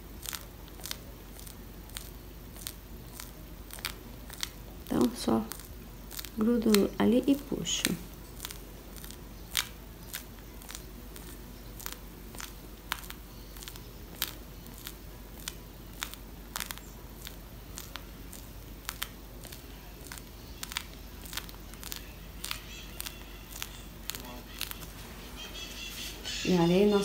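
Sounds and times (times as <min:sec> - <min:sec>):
piping bag clicks and crackles: 0:00.0 - 0:25.2.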